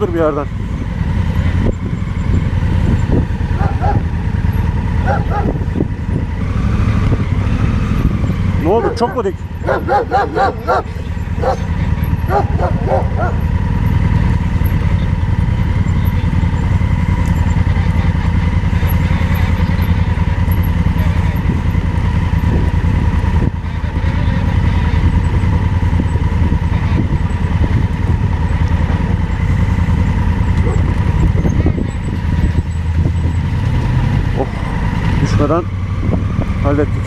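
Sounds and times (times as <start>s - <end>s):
motorcycle engine under load: 0.0s - 37.0s.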